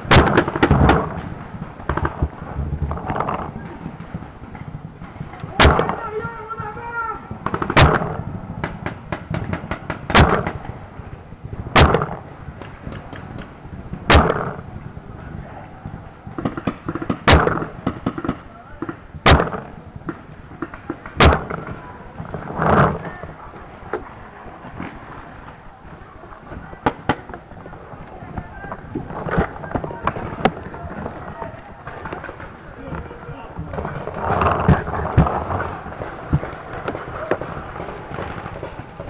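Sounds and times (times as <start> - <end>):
faint pops and cracks: 0.1 - 6.7, 7.4 - 10.8, 11.5 - 15.0, 15.9 - 39.0.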